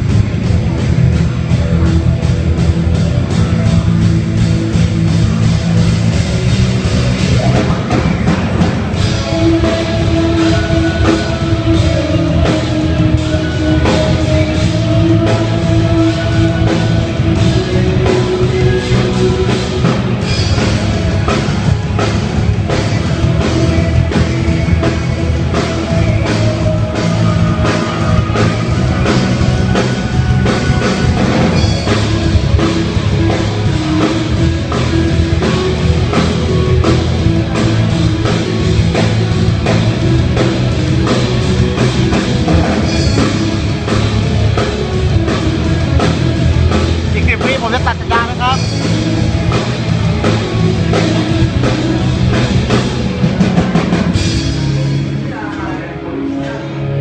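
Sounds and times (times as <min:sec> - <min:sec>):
drum kit beat: 0:00.0 - 0:54.8
live rock band playing: 0:00.0 - 0:57.0.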